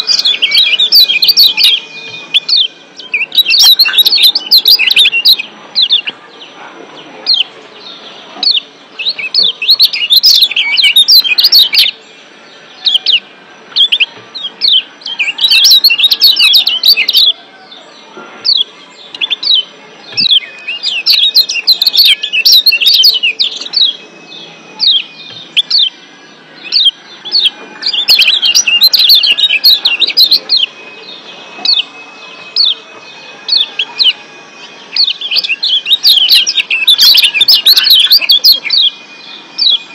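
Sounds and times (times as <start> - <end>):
bird giving sharp high chirps: 0.0 - 6.2, 7.2 - 12.0, 12.6 - 17.4, 18.4 - 26.0, 26.6 - 39.9.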